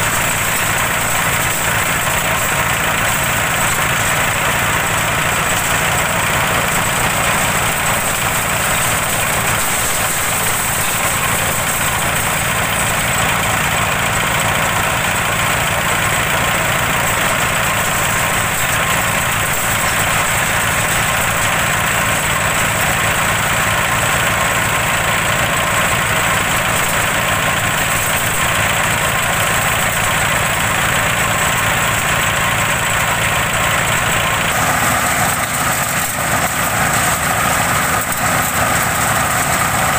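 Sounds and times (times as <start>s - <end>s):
small engine running: 0.0s - 39.9s
waste chopper shredding: 0.0s - 39.9s.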